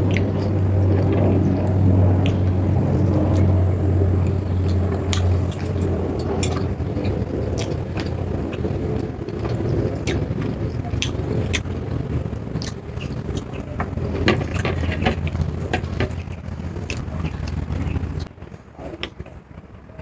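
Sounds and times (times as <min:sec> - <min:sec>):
chewing: 0:00.0 - 0:11.8, 0:12.5 - 0:19.3
steady low hum: 0:00.0 - 0:20.0.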